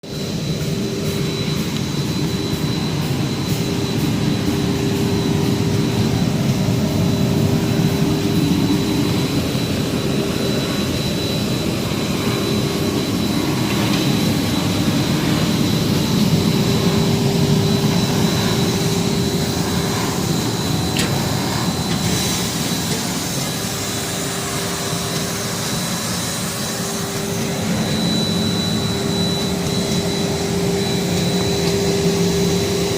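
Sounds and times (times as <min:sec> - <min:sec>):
high whine: 0:00.0 - 0:32.9
sanding machine drone: 0:00.0 - 0:32.9.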